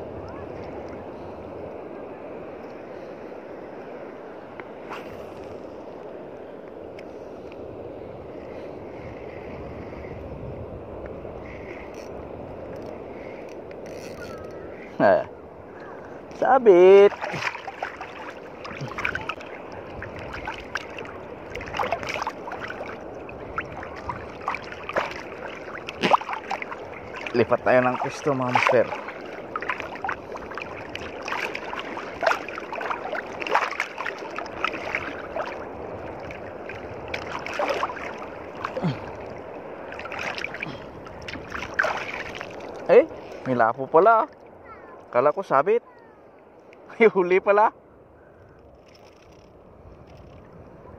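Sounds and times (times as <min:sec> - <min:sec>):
wind on microphone: 0:00.0 - 0:43.6, 0:47.8 - 0:50.9
sea water splashing and lapping: 0:00.0 - 0:50.9.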